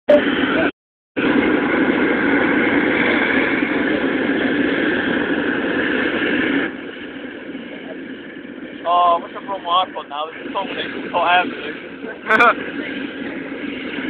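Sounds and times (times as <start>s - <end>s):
propane burner roaring: 0.1s - 14.0s.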